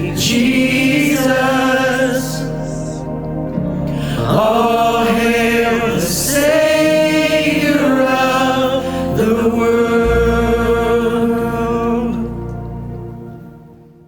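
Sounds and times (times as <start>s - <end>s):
choir singing held notes: 0.0s - 13.9s
musical accompaniment: 0.0s - 14.0s.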